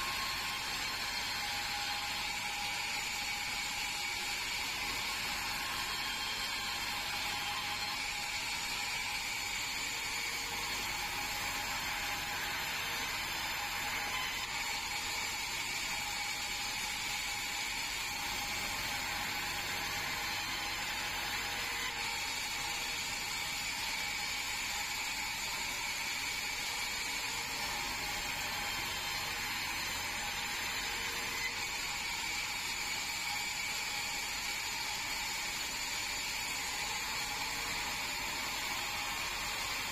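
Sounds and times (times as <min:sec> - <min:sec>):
band saw whining: 0:00.0 - 0:39.9.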